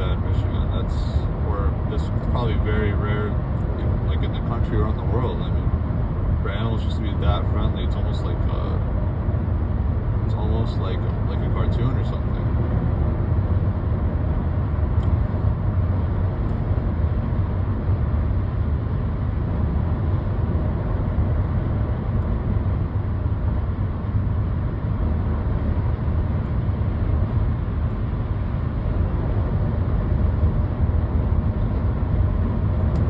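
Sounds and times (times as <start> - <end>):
car engine hum: 0.0 - 33.0
road rumble inside car: 0.0 - 33.0.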